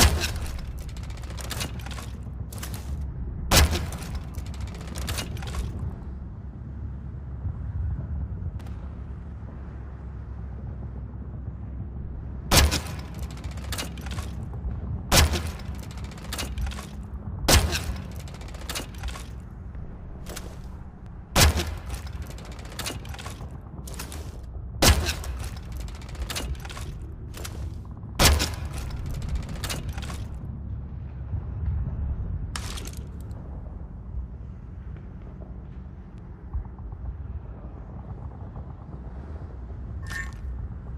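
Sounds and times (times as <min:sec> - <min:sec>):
steady low rumble: 0:00.0 - 0:40.9.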